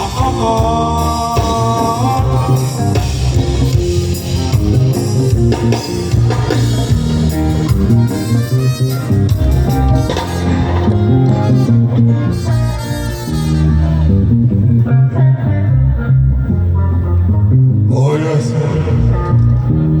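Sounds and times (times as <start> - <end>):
guitar: 0.0 - 20.0
live band playing: 0.0 - 20.0.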